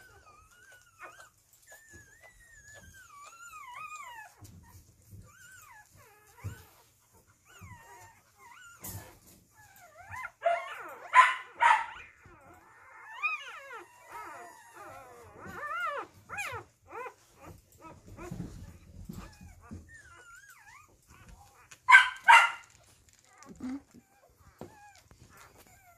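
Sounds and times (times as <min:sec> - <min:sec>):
puppies squealing and whimpering: 0:00.0 - 0:25.9.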